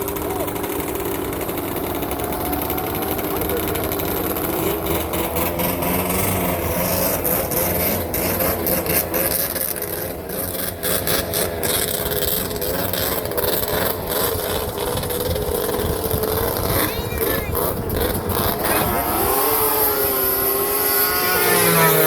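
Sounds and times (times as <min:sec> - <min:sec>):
snowmobile engines revving: 0:00.0 - 0:22.0.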